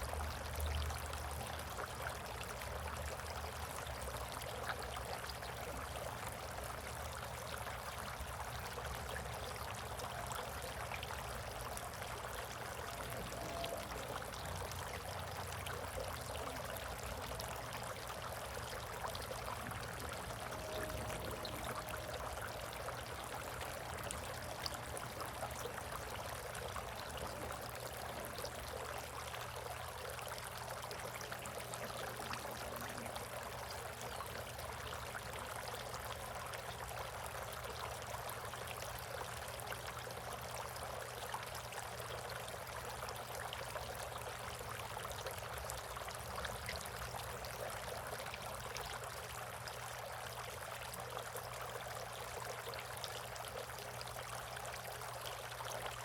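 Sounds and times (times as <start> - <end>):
trickle of running water: 0.0 - 56.0.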